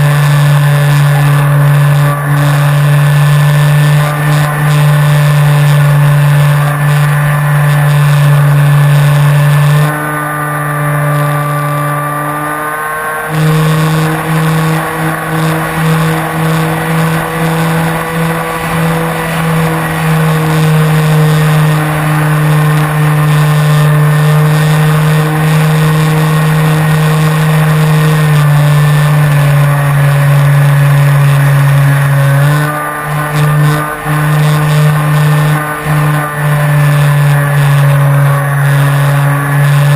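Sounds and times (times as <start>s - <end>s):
electric motor and propeller whirring: 0.0s - 39.9s.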